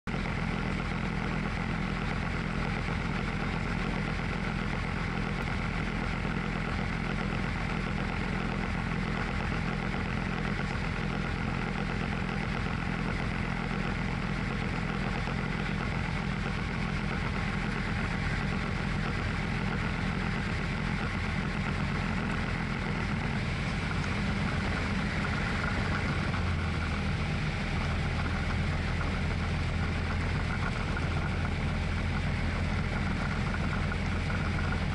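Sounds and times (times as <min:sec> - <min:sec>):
light aircraft engine and propeller drone: 0:00.1 - 0:34.9
low hum: 0:00.1 - 0:34.9.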